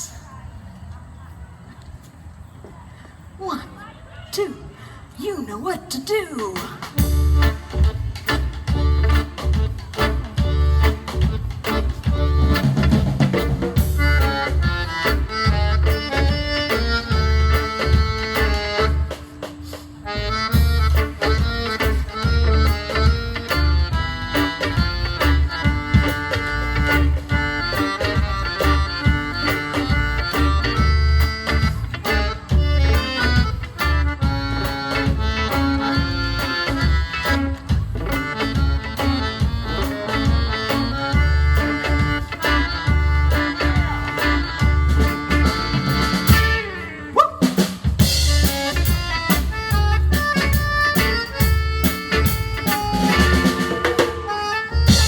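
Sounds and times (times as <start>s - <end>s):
folk dance band playing: 6.4s - 55.0s
steady drum beat: 6.8s - 46.8s, 47.4s - 55.0s
accordion melody: 6.8s - 55.0s.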